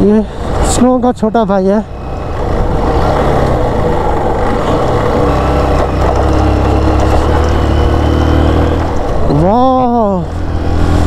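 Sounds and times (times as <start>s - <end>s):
motorcycle engine droning: 1.8s - 11.0s.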